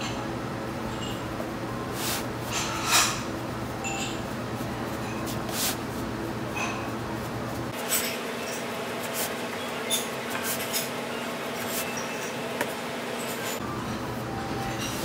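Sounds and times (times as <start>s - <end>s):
steady background hum: 0.0s - 15.0s
rolling pin rolling dough: 1.3s - 13.6s.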